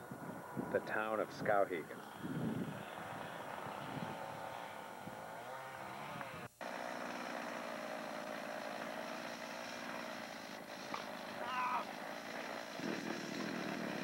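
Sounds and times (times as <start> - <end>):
small engine droning: 0.0 - 14.0
chainsaw running: 2.0 - 14.0.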